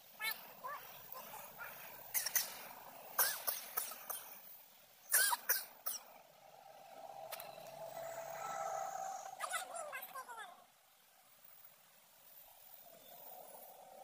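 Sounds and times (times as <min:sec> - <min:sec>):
passing traffic engine hum: 0:00.0 - 0:14.0.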